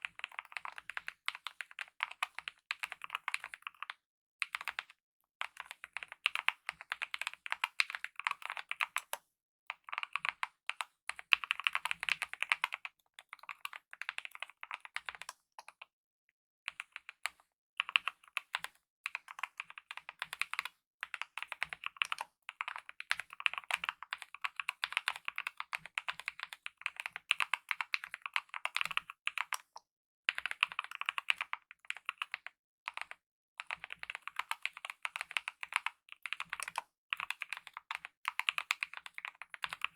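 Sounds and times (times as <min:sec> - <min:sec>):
fast typing on mechanical keyboard: 0:00.0 - 0:09.1, 0:09.8 - 0:15.4, 0:17.8 - 0:29.7, 0:30.3 - 0:39.9.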